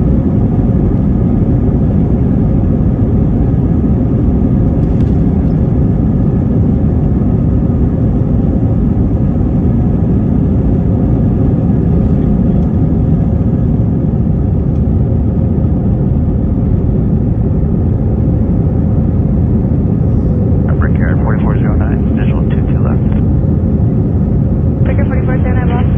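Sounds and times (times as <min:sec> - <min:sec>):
faint engine whine: 0:00.0 - 0:25.9
jet engines rumbling: 0:00.0 - 0:25.9.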